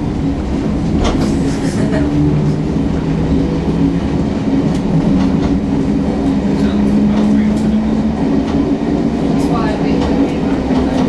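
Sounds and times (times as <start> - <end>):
train wheel noise: 0.0 - 11.0.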